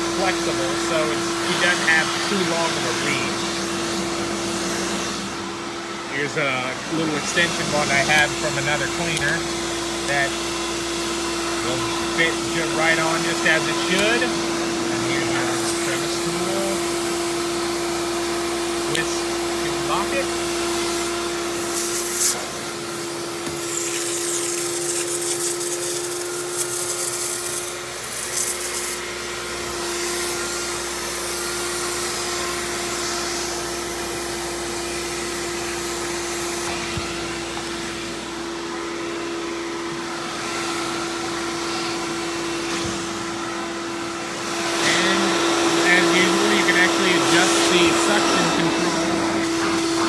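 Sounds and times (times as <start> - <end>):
vacuum motor hum: 0.0 - 50.0.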